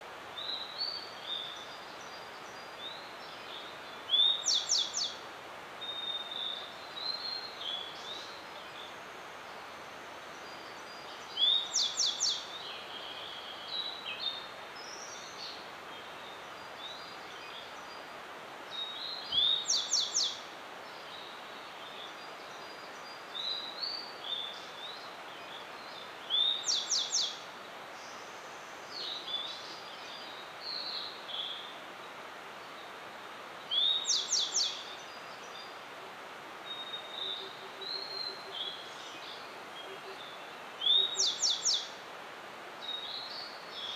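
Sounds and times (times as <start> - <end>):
bird song phrases: 0.0 - 5.2, 5.8 - 36.0, 36.6 - 42.0, 42.8 - 43.9
background hiss: 0.0 - 43.9.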